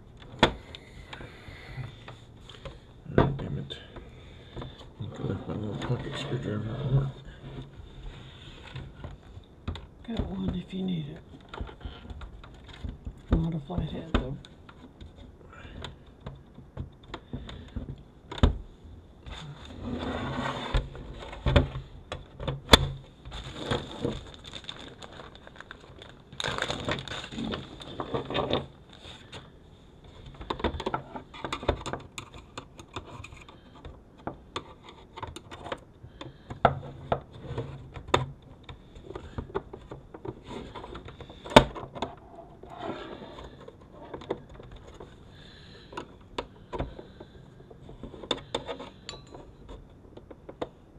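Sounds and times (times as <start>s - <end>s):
plastic housing scraping and rustling: 1.9s - 18.5s, 19.2s - 50.8s.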